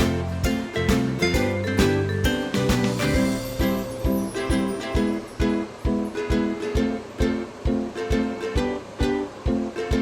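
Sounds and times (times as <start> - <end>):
plucked string instrument: 0.0 - 10.0
steady thumping beat: 0.0 - 10.0.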